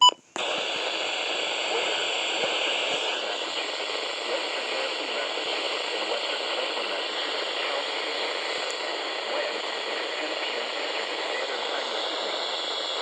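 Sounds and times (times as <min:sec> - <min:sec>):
radio static hiss: 0:00.3 - 0:13.0.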